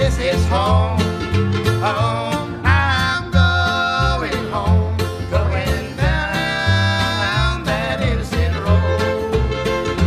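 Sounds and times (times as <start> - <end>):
string band playing: 0.0 - 10.0.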